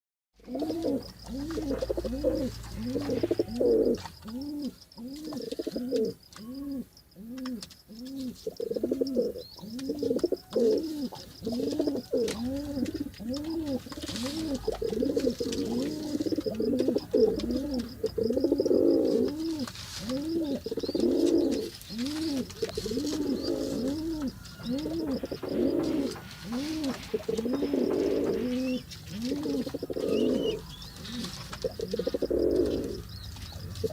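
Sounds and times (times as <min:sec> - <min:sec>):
pigeon cooing: 0:00.4 - 0:33.9.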